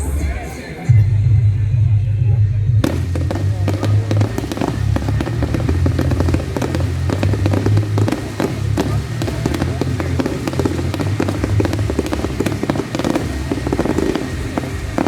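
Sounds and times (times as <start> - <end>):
loud music with heavy bass: 0.0 - 15.0
fireworks popping and crackling: 2.8 - 15.0.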